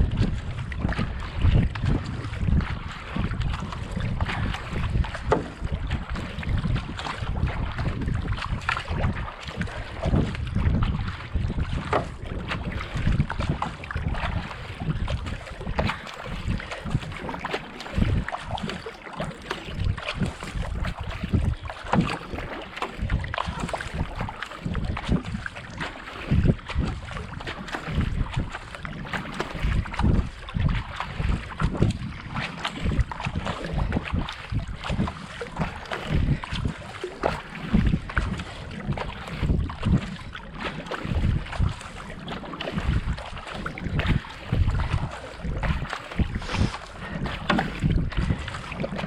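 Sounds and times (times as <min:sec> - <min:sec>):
paddle splashing in water: 0:00.0 - 0:49.0
wind buffeting microphone: 0:00.0 - 0:49.0.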